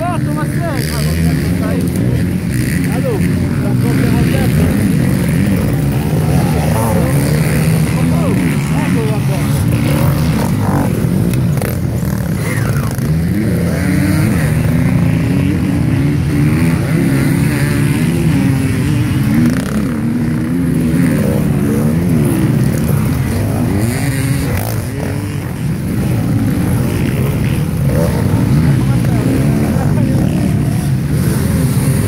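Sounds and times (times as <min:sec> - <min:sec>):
motorcycles revving past: 0:00.0 - 0:32.0.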